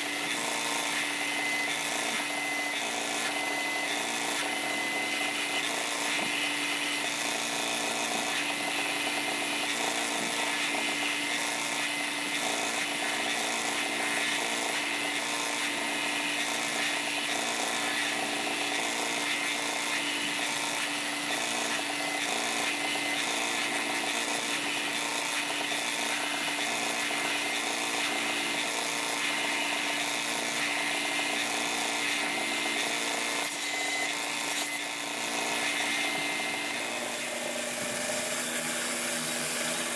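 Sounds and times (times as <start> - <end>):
belt sander motor hum: 0.0 - 39.9.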